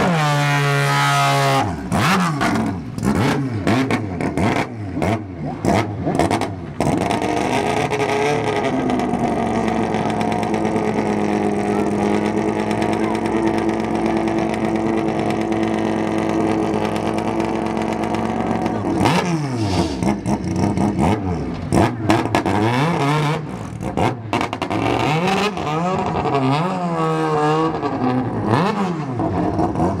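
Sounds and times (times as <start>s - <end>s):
race car engine idling and revving: 0.0s - 30.0s.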